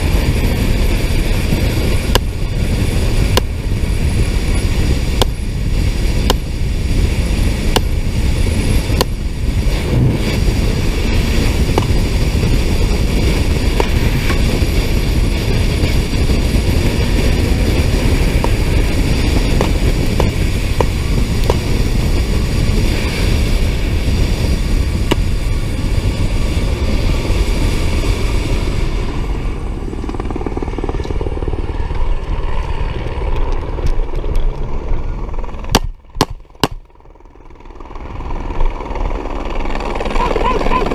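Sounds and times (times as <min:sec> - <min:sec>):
wind rushing: 0:00.0 - 0:33.8
motorcycle engine at speed: 0:00.0 - 0:40.9.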